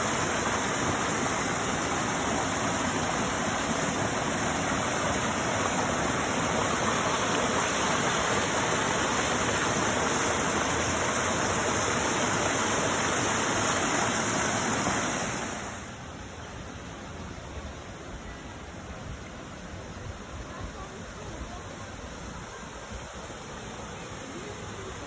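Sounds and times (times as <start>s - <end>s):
rushing water: 0.0s - 25.0s.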